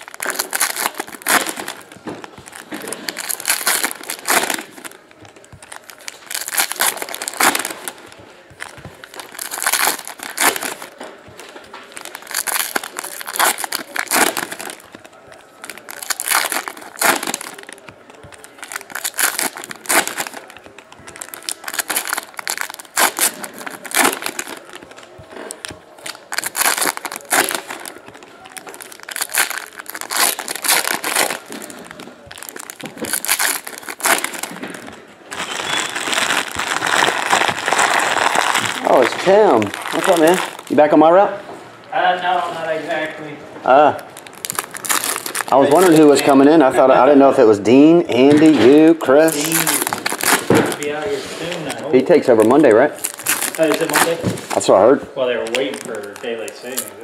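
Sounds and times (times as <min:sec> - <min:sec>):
packs being torn open: 0:00.0 - 0:40.9, 0:43.7 - 0:46.6, 0:48.2 - 0:54.8, 0:55.4 - 0:57.0
foil wrappers crinkling: 0:00.0 - 0:41.2, 0:42.0 - 0:57.0.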